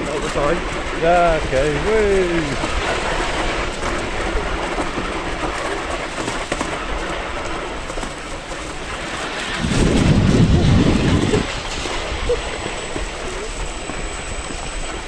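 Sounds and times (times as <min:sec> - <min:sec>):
toboggan grinding on pavement: 0:00.0 - 0:15.0.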